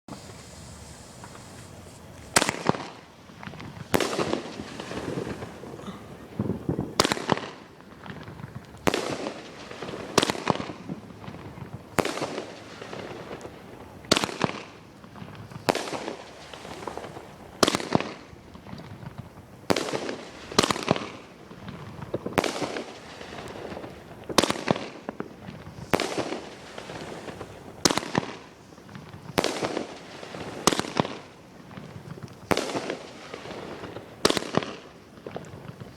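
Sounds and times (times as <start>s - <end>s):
fireworks bangs: 0.1s - 35.9s.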